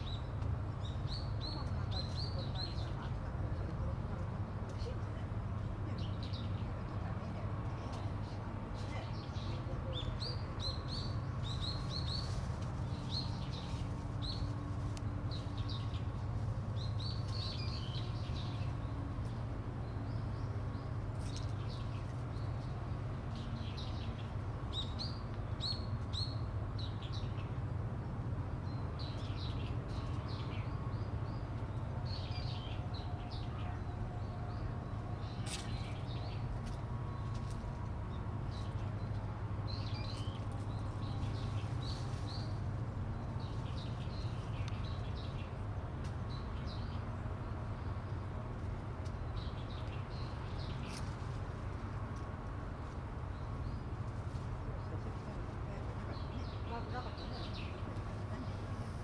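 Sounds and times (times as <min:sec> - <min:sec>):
small birds chirping: 0:04.7 - 0:27.6, 0:28.6 - 0:48.3, 0:52.8 - 0:59.0.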